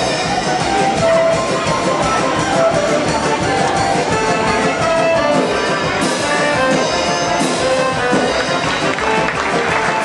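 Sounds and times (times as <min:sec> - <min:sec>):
music playing: 0:00.0 - 0:10.0.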